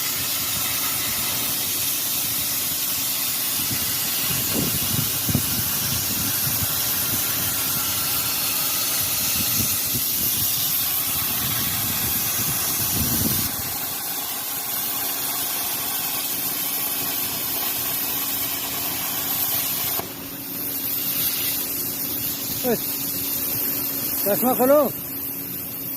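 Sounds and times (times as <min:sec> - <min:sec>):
plasma cutter arc hissing: 0:00.0 - 0:25.9.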